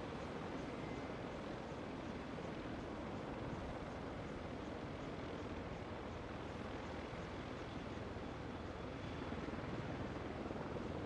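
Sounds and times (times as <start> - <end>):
helicopter rotors and turbines: 0.0 - 11.0.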